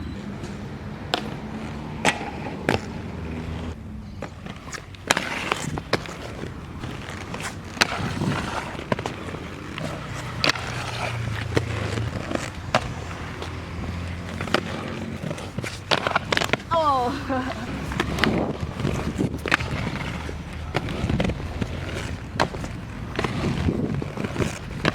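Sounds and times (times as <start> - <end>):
skateboard rolling on concrete: 0.0 - 24.9
skateboard trucks grinding: 0.0 - 24.9.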